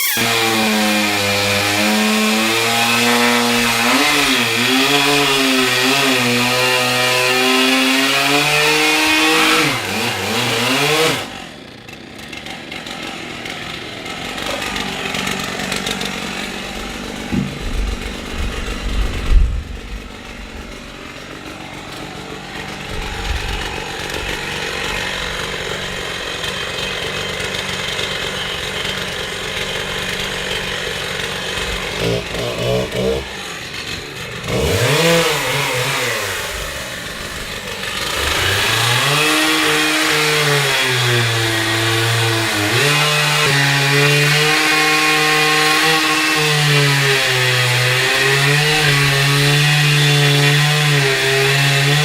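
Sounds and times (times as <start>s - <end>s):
chainsaw engine revving: 0.0s - 52.0s.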